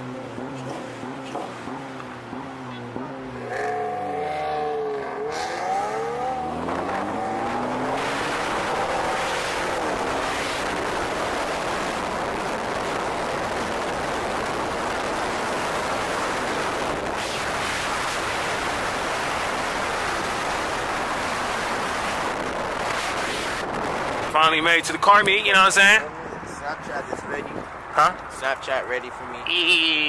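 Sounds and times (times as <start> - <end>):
car engine revving: 0.0 - 25.3
wind and road noise: 0.0 - 30.0.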